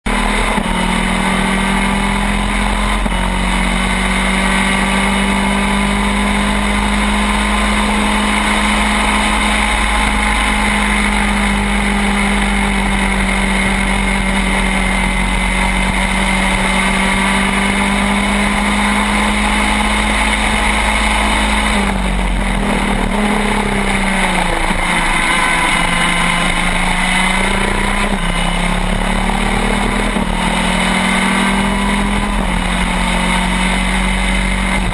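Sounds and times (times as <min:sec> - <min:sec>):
kart racing engine revving: 0:00.0 - 0:34.9.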